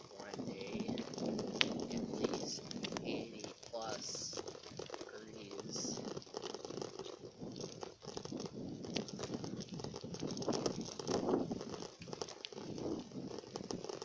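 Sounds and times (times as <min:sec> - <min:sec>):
microphone rubbing crackle: 0:00.0 - 0:14.0.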